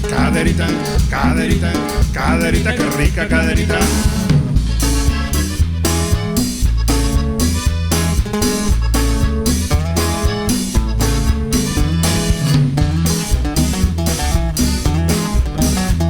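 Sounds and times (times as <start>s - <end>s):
lead guitar: 0.0s - 16.0s
pulsing bass line: 0.0s - 16.0s
steady drum beat: 0.0s - 16.0s.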